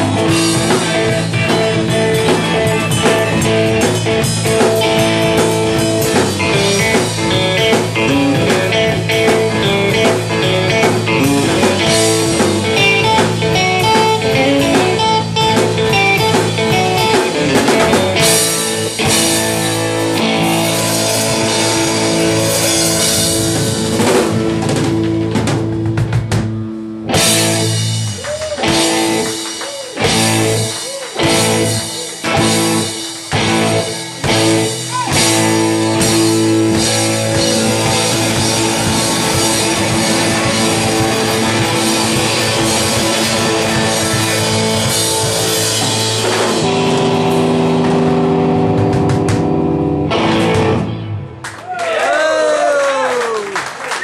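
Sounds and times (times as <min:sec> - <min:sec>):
bent wavering guitar notes: 0:00.0 - 0:25.5, 0:26.6 - 0:51.4
blues band playing live: 0:00.0 - 0:51.9.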